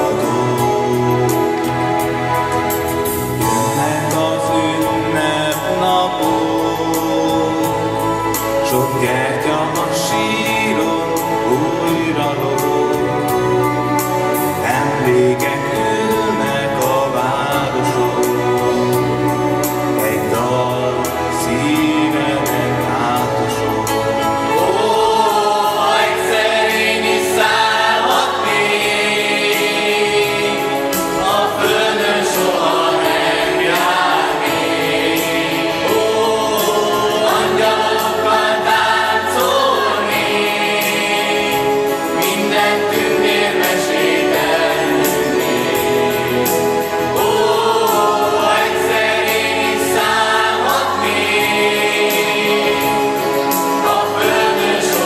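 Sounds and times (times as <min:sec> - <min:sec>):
male soloist singing: 0:00.0 - 0:02.3, 0:03.4 - 0:46.2
mixed choir singing: 0:00.0 - 0:55.0.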